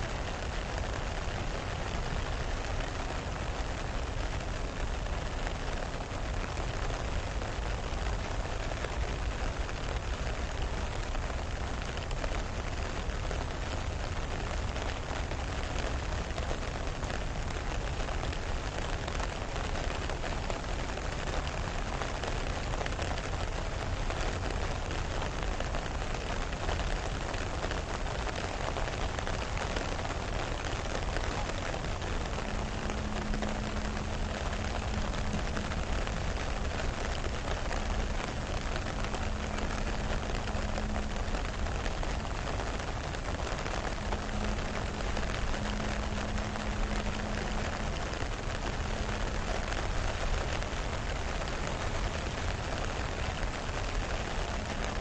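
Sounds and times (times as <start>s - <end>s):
rain falling on water: 0.0s - 55.0s
low rumble: 0.1s - 55.0s.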